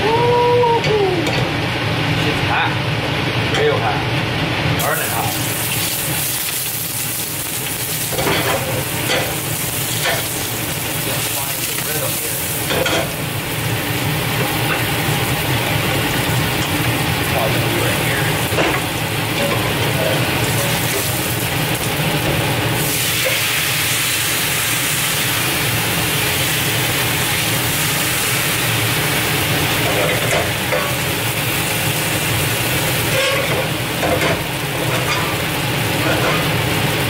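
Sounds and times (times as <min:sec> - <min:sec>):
onions sizzling in a skillet: 0:04.8 - 0:37.0.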